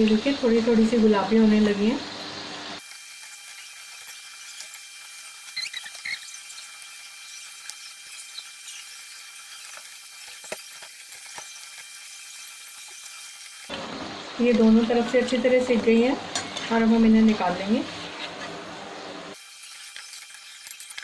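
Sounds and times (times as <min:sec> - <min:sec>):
oil crackling sizzle: 0:00.0 - 0:21.0.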